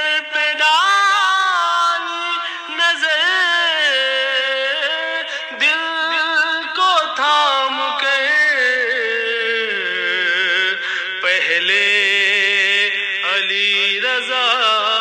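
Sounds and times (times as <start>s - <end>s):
person singing a lament: 0.0s - 15.0s.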